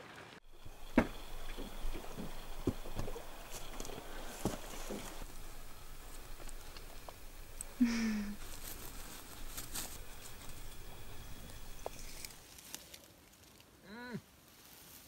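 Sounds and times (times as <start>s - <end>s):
rustling in bushes: 0.4s - 15.0s.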